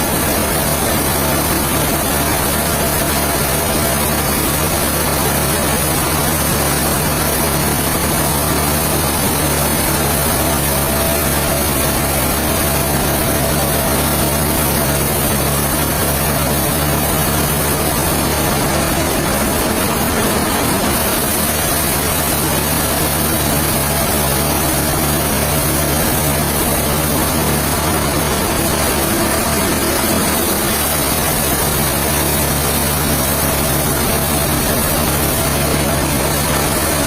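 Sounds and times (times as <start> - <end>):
loud even hiss: 0.0 - 37.0
low engine hum: 0.0 - 37.0.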